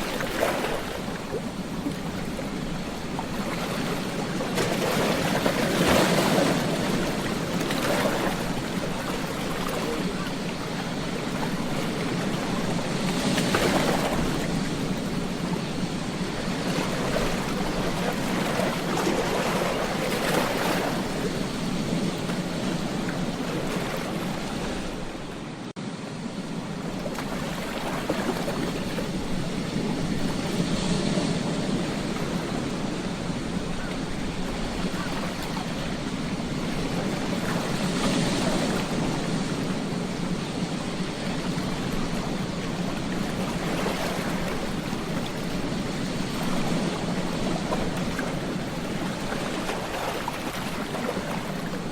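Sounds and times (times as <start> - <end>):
ocean waves washing onto beach: 0.0 - 51.9.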